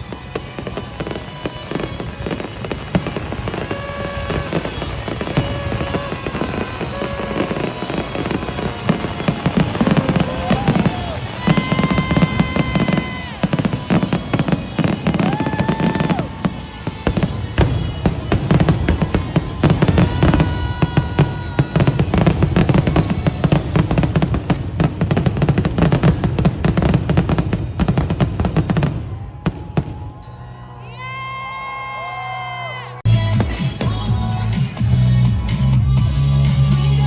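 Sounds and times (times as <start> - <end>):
fireworks bangs and crackling: 0.0 - 30.8, 33.0 - 37.0
music playing: 0.0 - 37.0.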